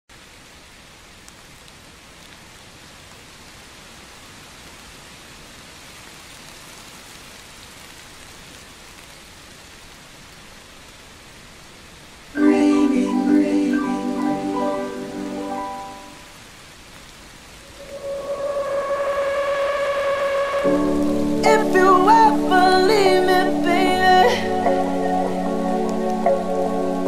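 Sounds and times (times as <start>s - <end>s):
steady rain: 0.1s - 27.0s.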